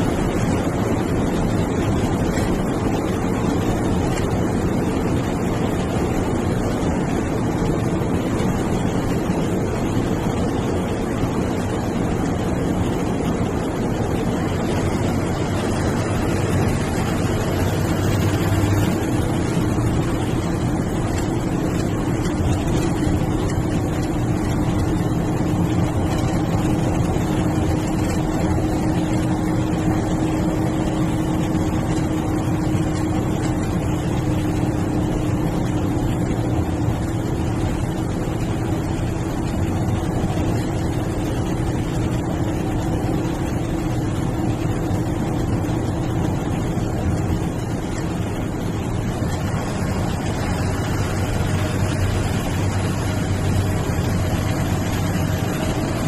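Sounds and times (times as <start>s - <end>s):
bus engine drone: 0.0s - 56.0s
road and wind noise: 0.0s - 56.0s.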